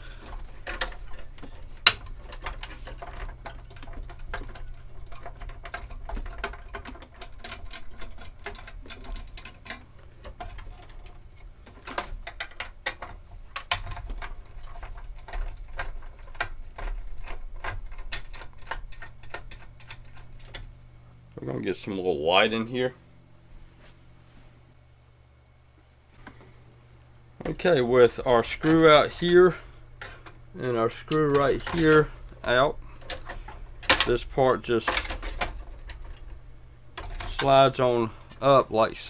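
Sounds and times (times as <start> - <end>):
small clicks ticks and rattles: 0.0 - 20.8, 27.4 - 39.0
steady low hum: 0.0 - 39.0.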